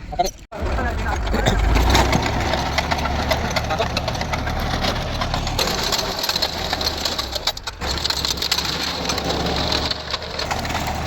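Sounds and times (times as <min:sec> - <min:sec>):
tractor engine hum: 0:00.5 - 0:11.0
rotavator clattering rattle: 0:00.6 - 0:11.0.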